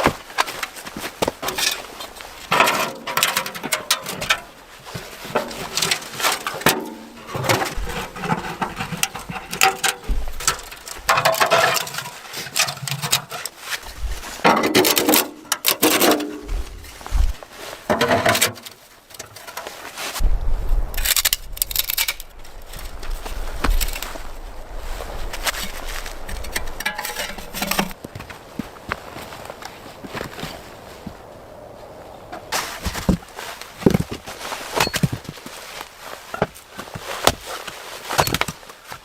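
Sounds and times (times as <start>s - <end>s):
crunching rustling and knocking: 0.0s - 31.3s, 32.2s - 39.0s.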